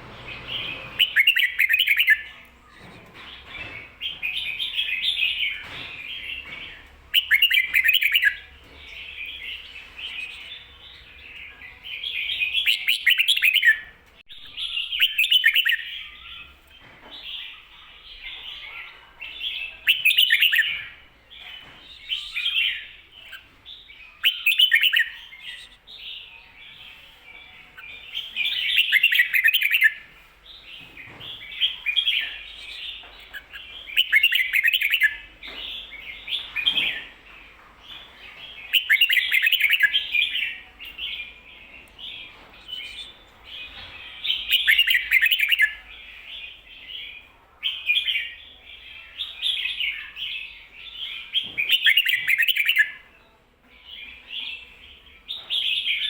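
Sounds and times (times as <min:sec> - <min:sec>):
soft bird chattering: 0:00.0 - 0:16.6, 0:17.4 - 0:30.1, 0:30.9 - 0:37.2, 0:37.9 - 0:53.1.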